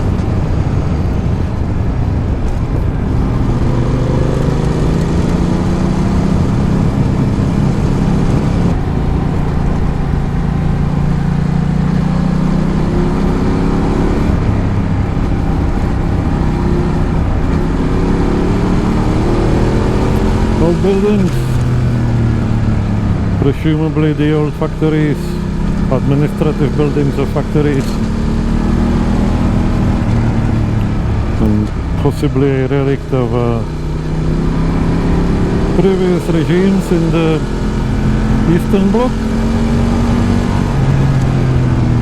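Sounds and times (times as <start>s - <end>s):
motorcycle engine pulling: 0.0s - 42.0s
steady rushing noise: 0.0s - 42.0s.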